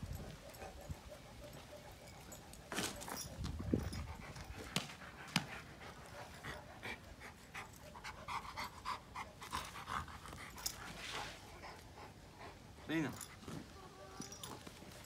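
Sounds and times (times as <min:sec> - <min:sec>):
dog panting: 0:00.0 - 0:02.7, 0:03.8 - 0:13.5.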